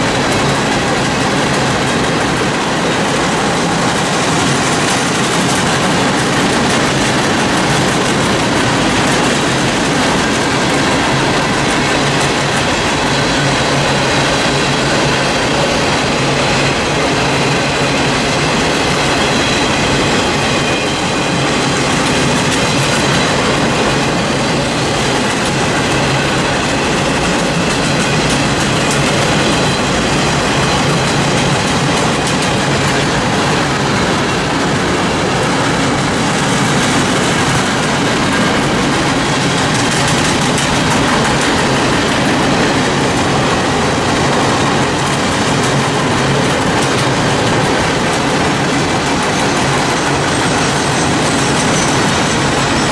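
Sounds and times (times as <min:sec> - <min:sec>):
steel wheels clattering on rails: 0:00.0 - 0:52.9.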